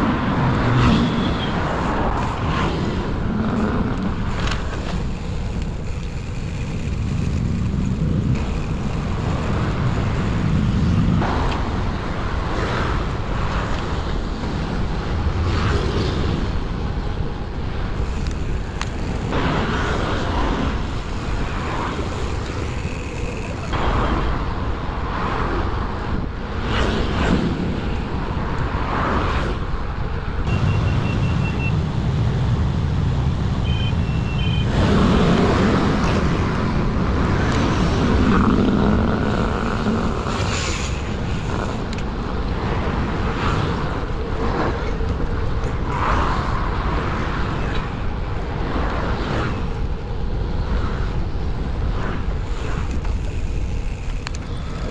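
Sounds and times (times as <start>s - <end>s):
passing vehicles: 0.0s - 54.9s
street traffic: 0.0s - 54.9s
wind rumbling on microphone: 0.0s - 54.9s.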